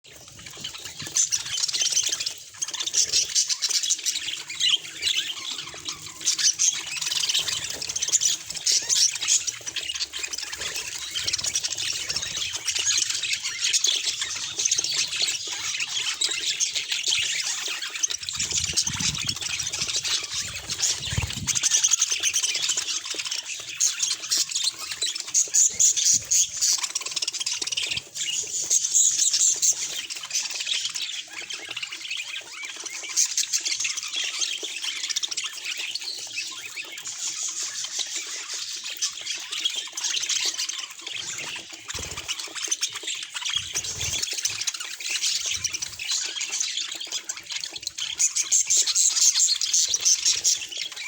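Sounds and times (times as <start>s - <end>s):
budgerigars chattering: 0.2s - 51.0s.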